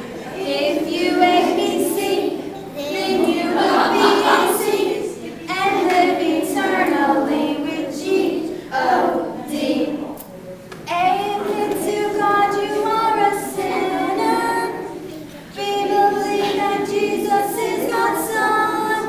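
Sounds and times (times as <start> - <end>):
woman and children singing: 0.0 - 10.2, 10.8 - 19.0.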